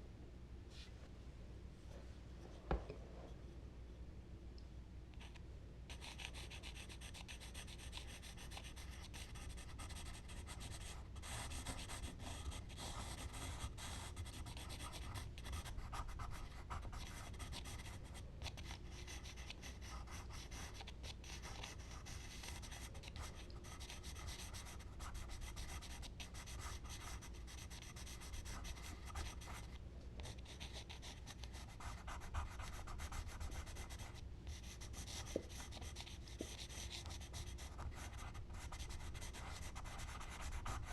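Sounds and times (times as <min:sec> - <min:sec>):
low steady hum: 0:00.0 - 0:40.9
charcoal scratching on paper: 0:06.0 - 0:40.9.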